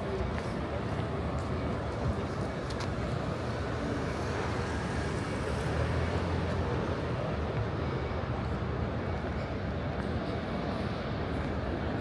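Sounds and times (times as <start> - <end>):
distant road traffic: 0.0 - 12.0
low city rumble: 0.0 - 12.0.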